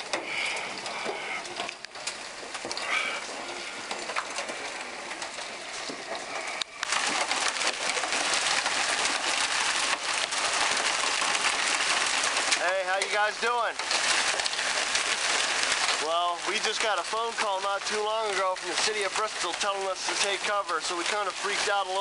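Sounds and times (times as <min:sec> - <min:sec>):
hailstones clicking and splashing: 0:00.0 - 0:22.0
heavy rain hissing: 0:00.0 - 0:22.0.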